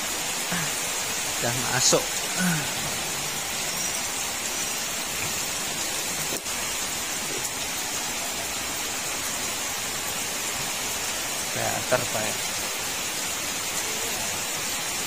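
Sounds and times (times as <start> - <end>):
fast-flowing floodwater: 0.0 - 15.0
heavy rain: 0.0 - 15.0.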